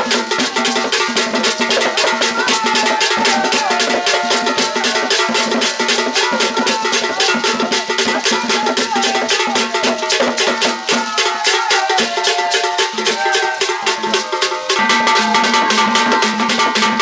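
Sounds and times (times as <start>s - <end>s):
hand drums playing fast rhythm: 0.0s - 17.0s.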